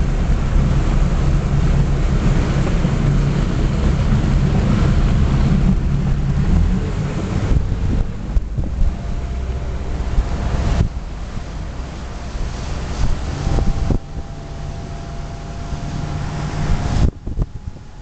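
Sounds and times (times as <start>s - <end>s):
motorboat engine running: 0.0s - 18.0s
wind noise on microphone: 0.0s - 18.0s.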